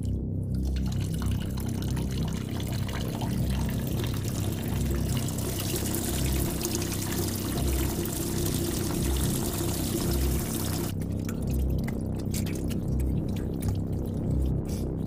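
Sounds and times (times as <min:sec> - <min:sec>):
water draining through colander: 0:00.0 - 0:14.7.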